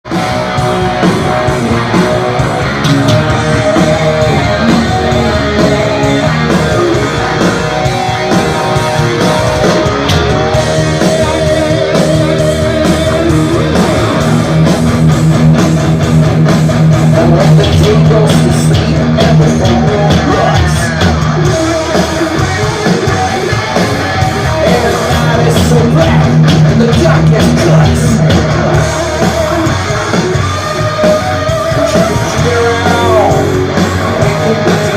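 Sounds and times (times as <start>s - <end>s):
heavy metal band playing: 0.0s - 34.9s.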